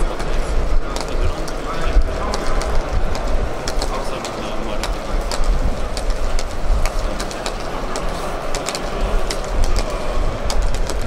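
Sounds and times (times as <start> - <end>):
outdoor crowd hubbub: 0.0 - 11.0
wind rumbling on microphone: 0.0 - 11.0
hands clapping: 0.9 - 11.0.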